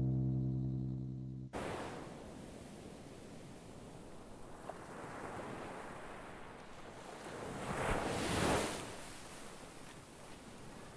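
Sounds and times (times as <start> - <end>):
waves washing: 1.6 - 10.9.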